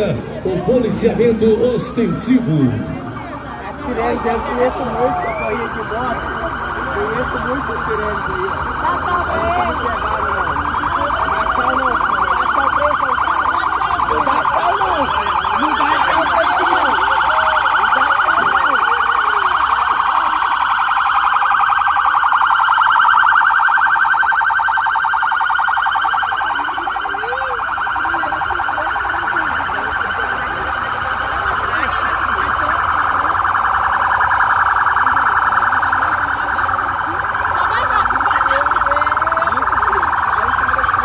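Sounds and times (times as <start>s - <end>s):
people talking: 0.0s - 22.0s, 26.1s - 41.0s
police siren warbling: 0.0s - 41.0s.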